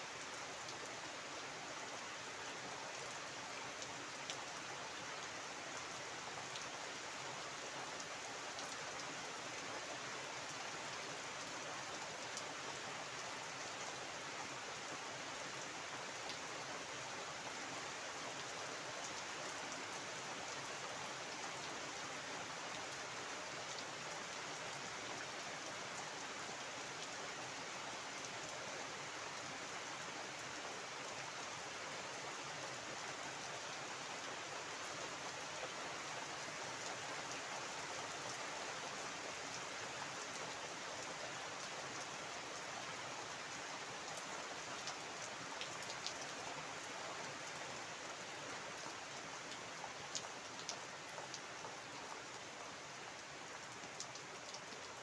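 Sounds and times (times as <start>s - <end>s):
heavy rain on water and foliage: 0.0s - 55.0s.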